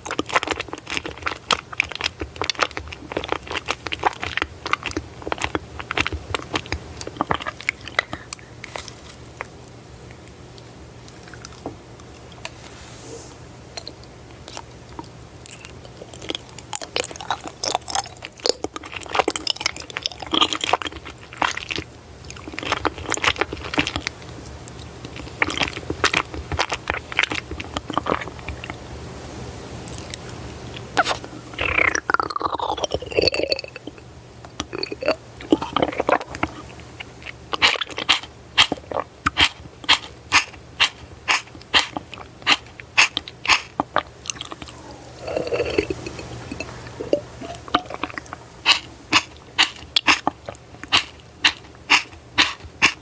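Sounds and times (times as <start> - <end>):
crunchy chewing and biting: 0.0 - 10.4, 13.8 - 28.8, 29.8 - 53.0.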